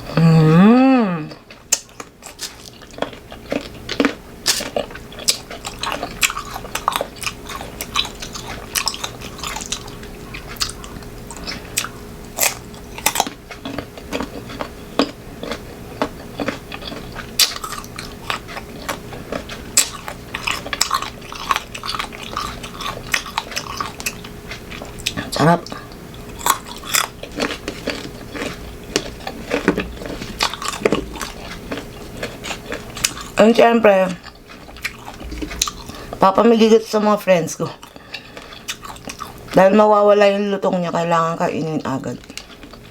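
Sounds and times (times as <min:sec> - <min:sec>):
faint steady hum: 0:00.0 - 0:42.9
crunchy chewing of mango: 0:01.1 - 0:36.4, 0:37.6 - 0:39.8, 0:41.6 - 0:42.9.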